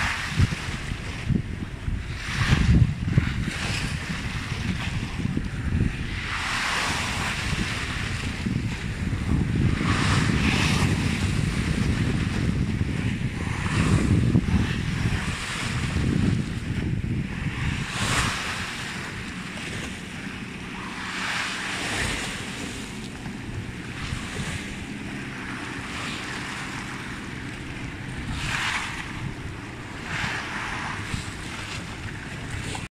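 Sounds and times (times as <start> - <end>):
small waves washing ashore: 0.0 - 32.9
wind rumble on microphone: 0.0 - 32.9.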